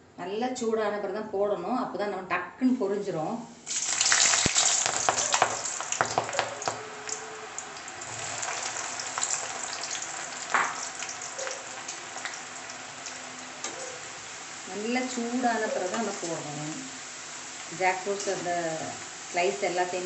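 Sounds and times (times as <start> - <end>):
food sizzling in hot oil: 3.5 - 20.0.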